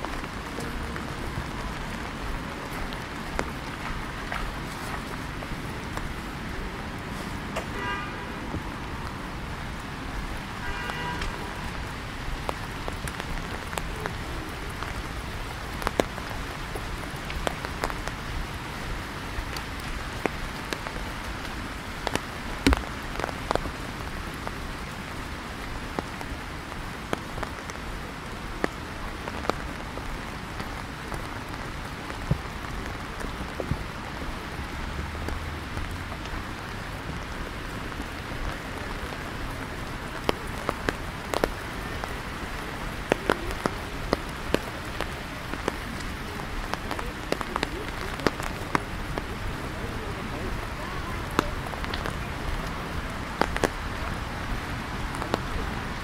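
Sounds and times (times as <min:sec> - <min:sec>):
raindrops tapping close by: 0:00.0 - 0:56.0
steady rain on foliage: 0:00.0 - 0:56.0.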